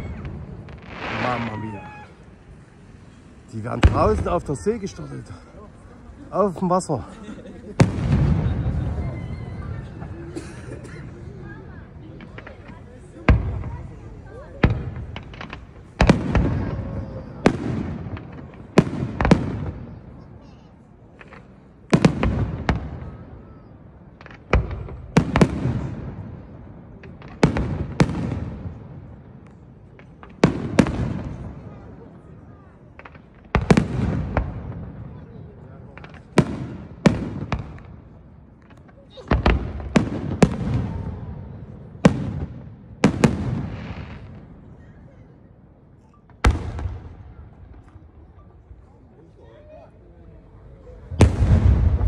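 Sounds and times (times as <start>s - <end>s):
distant firework bangs: 0.0s - 4.6s, 7.7s - 20.4s, 21.1s - 44.8s, 46.3s - 48.3s, 50.9s - 52.0s.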